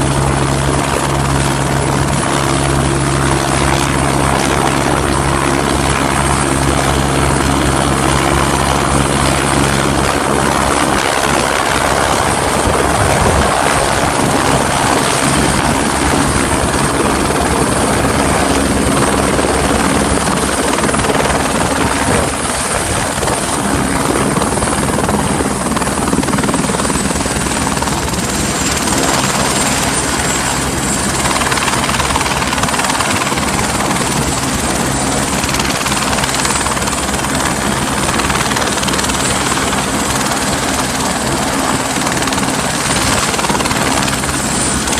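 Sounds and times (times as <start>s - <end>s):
helicopter rotor beat: 0.0s - 44.9s.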